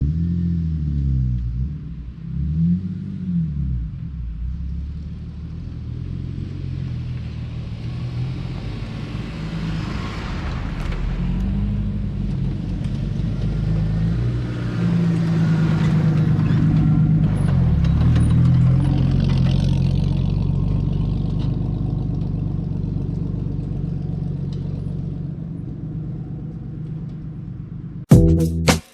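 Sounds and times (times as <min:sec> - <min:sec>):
off-road vehicle engine revving: 0:00.0 - 0:25.9.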